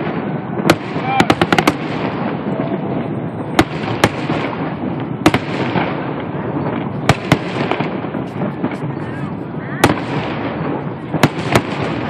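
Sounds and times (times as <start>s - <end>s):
fireworks bangs: 0.0s - 12.0s
fireworks show background noise: 0.0s - 12.0s.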